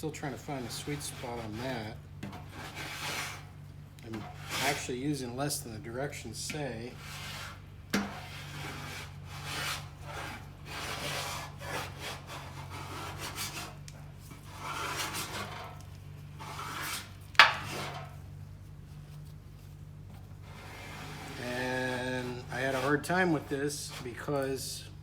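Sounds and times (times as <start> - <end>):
rasping strokes on body filler: 0.4 - 4.9, 6.9 - 19.5, 20.4 - 24.3.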